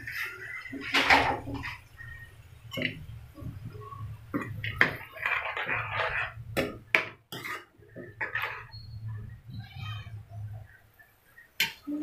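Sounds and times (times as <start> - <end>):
spoon scraping pan: 0.0 - 11.9.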